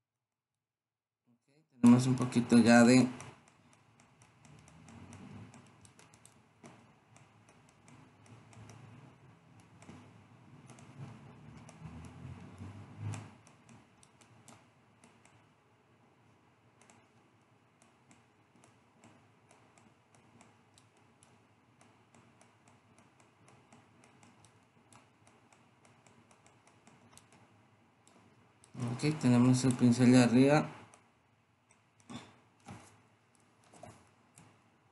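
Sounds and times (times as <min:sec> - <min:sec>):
mouse and keyboard clicking: 0:01.9 - 0:15.5, 0:16.8 - 0:30.0, 0:31.7 - 0:34.6.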